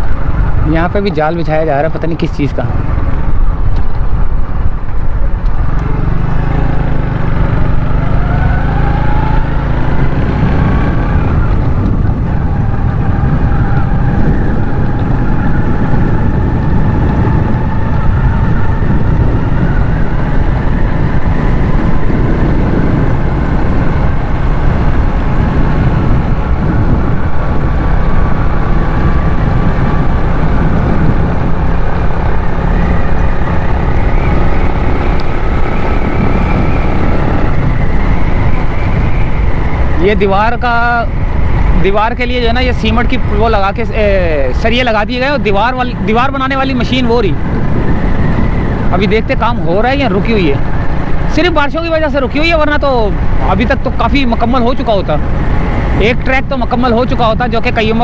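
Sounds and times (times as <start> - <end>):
wind rushing over microphone: 0.0 - 58.0
motorcycle engine running: 2.7 - 58.0.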